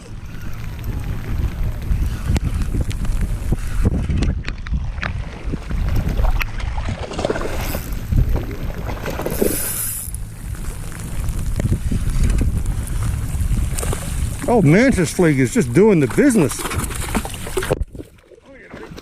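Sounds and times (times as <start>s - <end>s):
wind buffeting microphone: 0.0s - 18.2s
water splashing: 0.0s - 19.0s.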